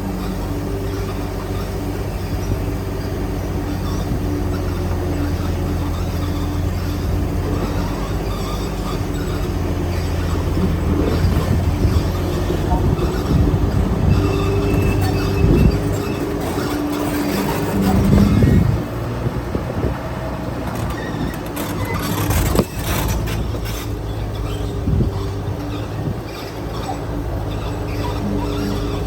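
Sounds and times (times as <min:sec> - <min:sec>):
heavy machinery diesel engine: 0:00.0 - 0:29.0
metal squealing and clanking: 0:00.1 - 0:29.0.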